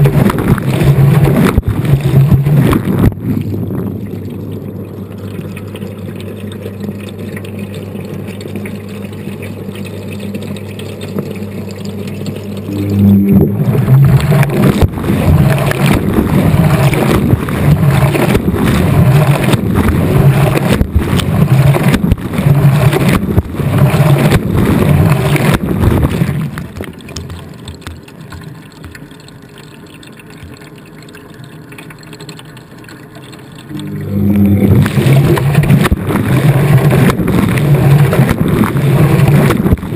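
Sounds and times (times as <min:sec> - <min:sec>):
washing machine hum: 0:00.0 - 0:39.9
water and laundry sloshing: 0:00.0 - 0:39.9.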